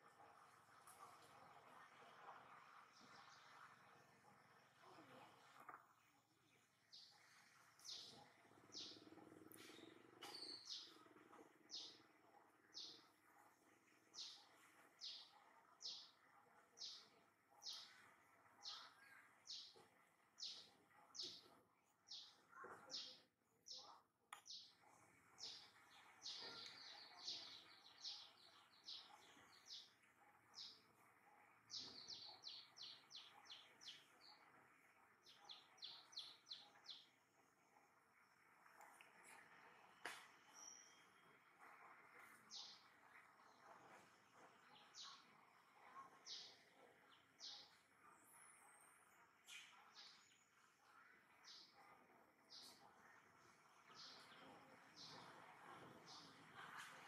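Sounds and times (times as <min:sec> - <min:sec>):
faint bird chirping: 0:00.1 - 0:57.0.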